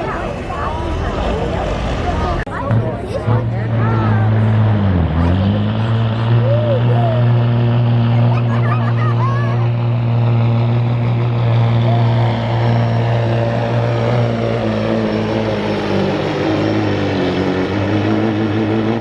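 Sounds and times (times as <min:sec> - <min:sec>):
diesel truck engine under load: 0:00.0 - 0:19.0.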